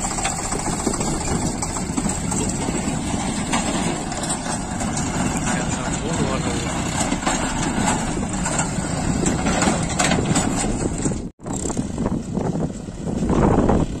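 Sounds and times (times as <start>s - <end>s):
heavy diesel engines under load: 0.0s - 14.0s.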